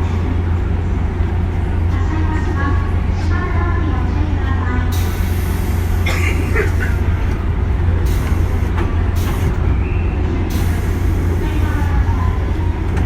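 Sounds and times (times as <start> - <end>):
train low drone and rumble: 0.0 - 13.0.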